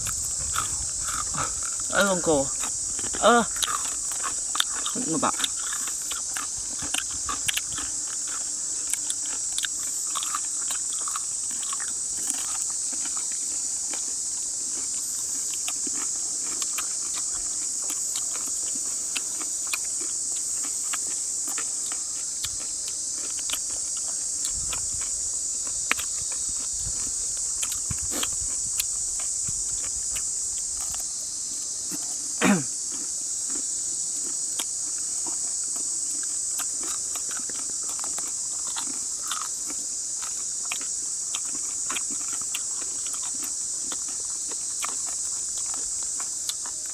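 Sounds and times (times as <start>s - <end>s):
jungle insects droning: 0.0s - 46.9s.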